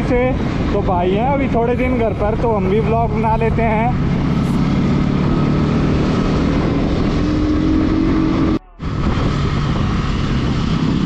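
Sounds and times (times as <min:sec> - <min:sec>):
wind rush: 0:00.0 - 0:11.0.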